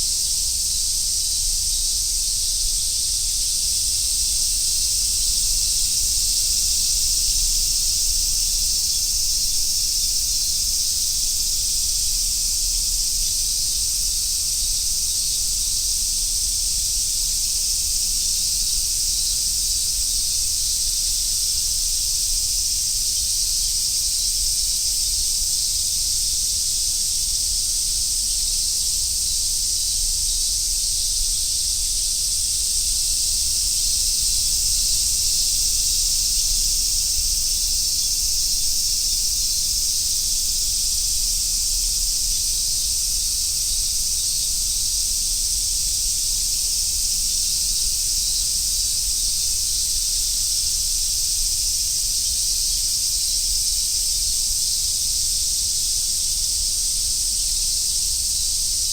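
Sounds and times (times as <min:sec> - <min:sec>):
cicadas buzzing: 0:00.0 - 0:58.9.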